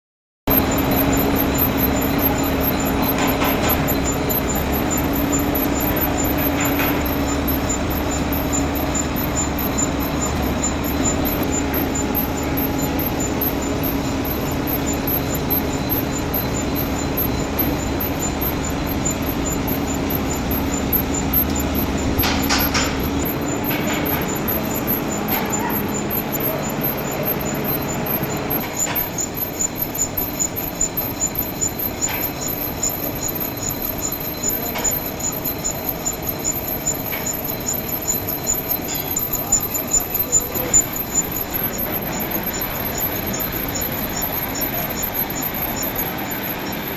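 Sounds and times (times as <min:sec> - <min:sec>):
lathe humming: 0:00.5 - 0:46.9.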